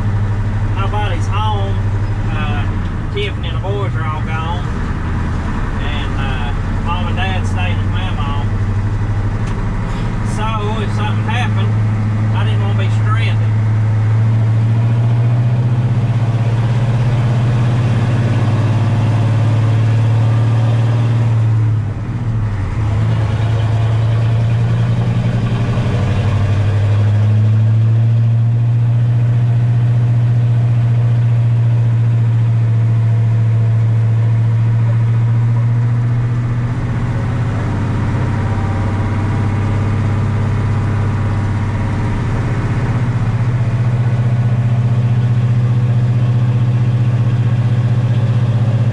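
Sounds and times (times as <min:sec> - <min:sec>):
truck engine from inside cab: 0:00.0 - 0:48.9.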